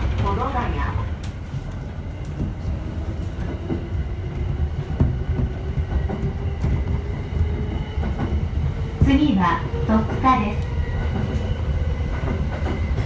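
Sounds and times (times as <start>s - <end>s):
rail clicks: 0.0s - 13.0s
train interior rumble: 0.0s - 13.0s.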